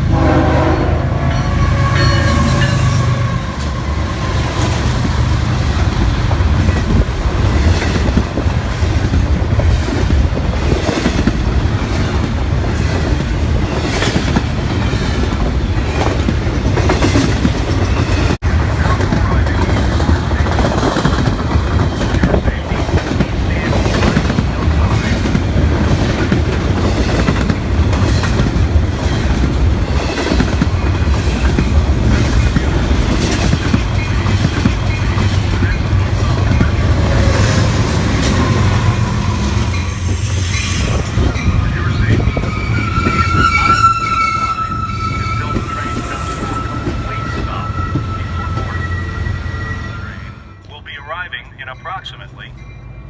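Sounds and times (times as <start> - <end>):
train rumbling on rails: 0.0 - 53.0.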